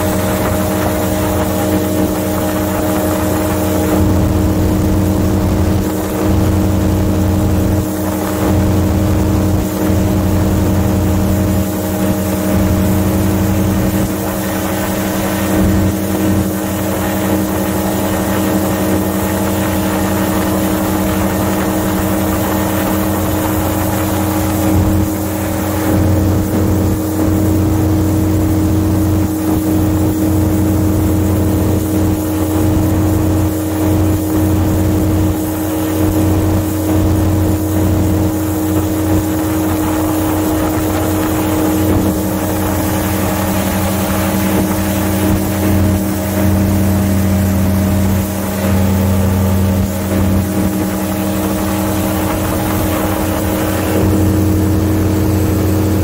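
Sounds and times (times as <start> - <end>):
airboat engine and propeller drone: 0.0 - 56.0.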